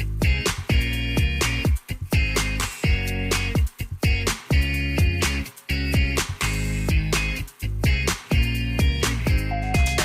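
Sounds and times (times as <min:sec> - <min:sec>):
funk music with guitar: 0:00.0 - 0:10.0.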